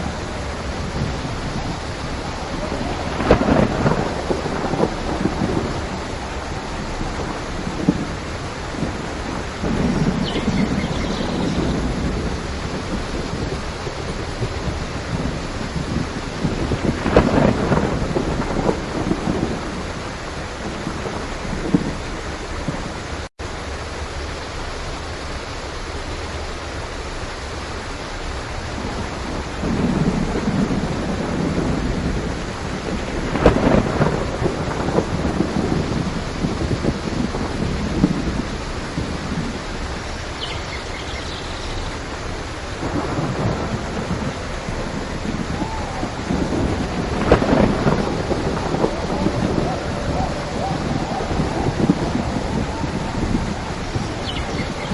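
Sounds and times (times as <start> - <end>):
thunder rumbling: 0.0 - 23.3, 28.3 - 54.9
heavy rain: 0.0 - 54.9.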